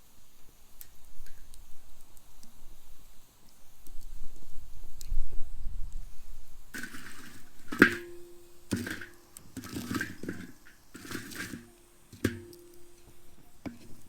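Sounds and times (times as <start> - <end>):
fire hissing: 0.0 - 14.0
wood fire crackling: 0.0 - 14.0
fire popping: 0.2 - 14.0.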